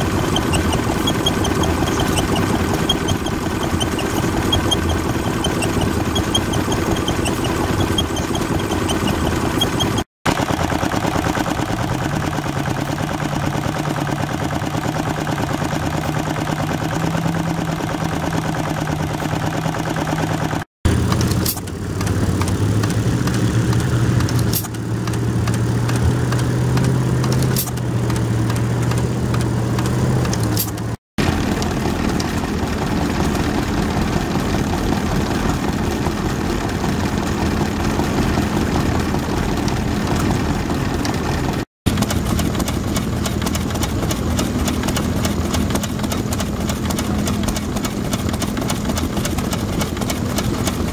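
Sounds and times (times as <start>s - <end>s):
stationary engines running: 0.0s - 50.9s.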